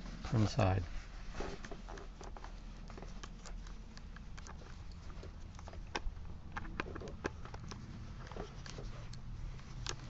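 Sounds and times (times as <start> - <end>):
screwdriver clicking and scraping: 1.6 - 10.0.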